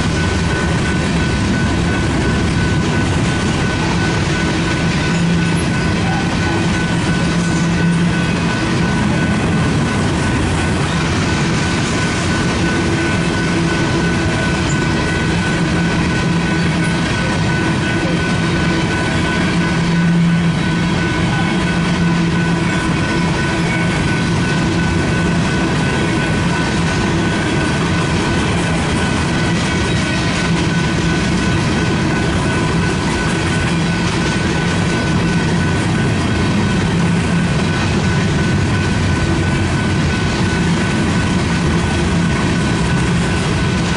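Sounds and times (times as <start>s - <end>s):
high whine: 0.0s - 43.9s
train rumbling: 0.0s - 43.9s.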